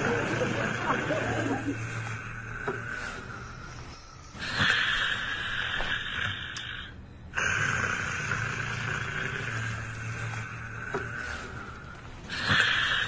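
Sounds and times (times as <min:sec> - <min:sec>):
person snoring: 0:00.0 - 0:13.0.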